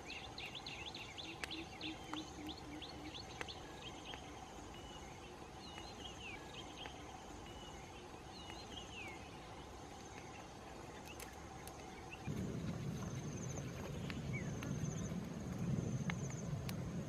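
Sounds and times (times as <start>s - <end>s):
birds chirping: 0.0s - 17.0s
insect hum: 0.0s - 17.0s.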